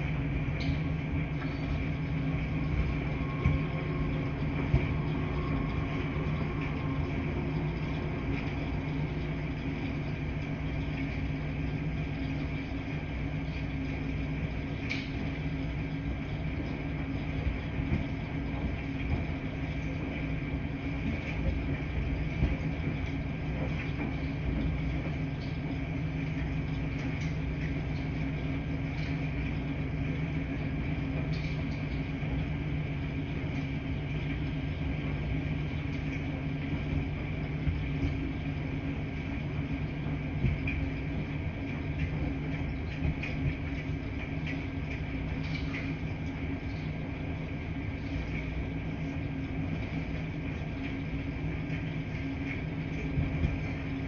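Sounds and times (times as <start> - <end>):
laundry machines humming: 0.0 - 54.0.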